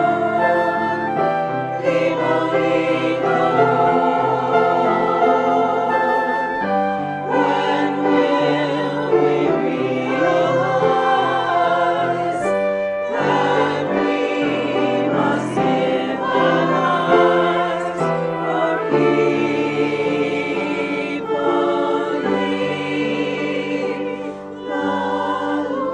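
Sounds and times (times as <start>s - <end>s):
choir singing a hymn: 0.0s - 25.9s.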